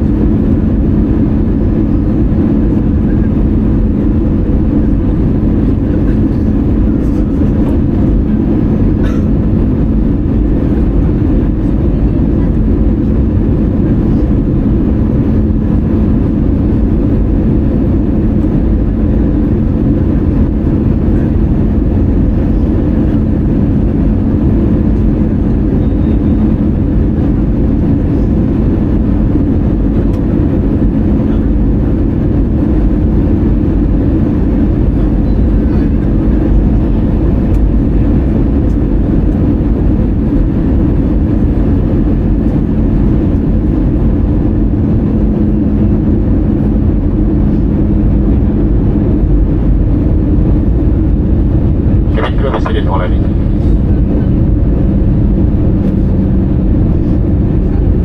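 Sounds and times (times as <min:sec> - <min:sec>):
jet engine and airflow rumble: 0:00.0 - 0:58.0
steady hum: 0:00.0 - 0:58.0.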